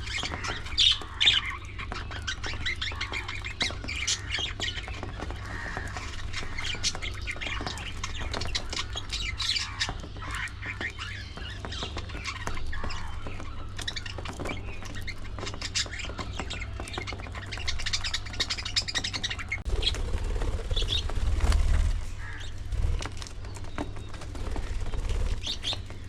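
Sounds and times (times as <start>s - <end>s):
budgerigars chirping and squawking: 0.0s - 20.0s, 20.7s - 26.0s.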